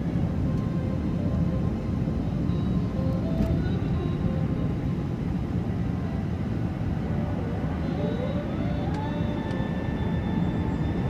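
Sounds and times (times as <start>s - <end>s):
airplane cabin rumble: 0.0s - 11.0s
faint rising whine: 0.5s - 11.0s.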